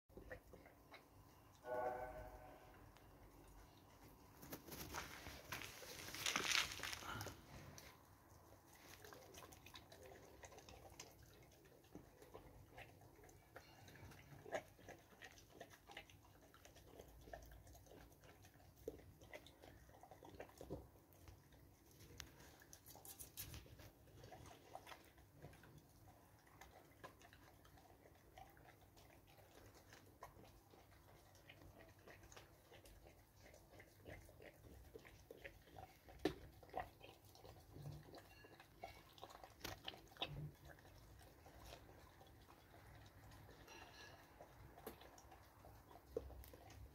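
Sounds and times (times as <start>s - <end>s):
dog chewing from metal bowl: 7.8s - 46.9s.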